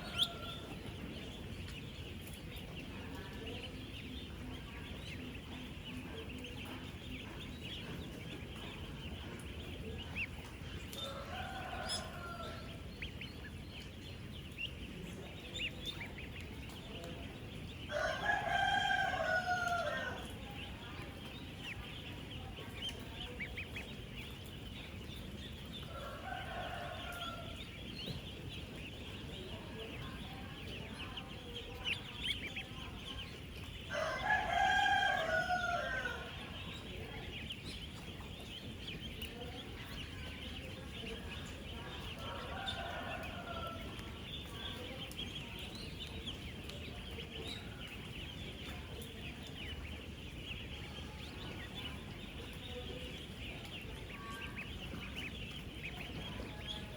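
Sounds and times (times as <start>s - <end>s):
ducklings peeping: 0.0s - 56.9s.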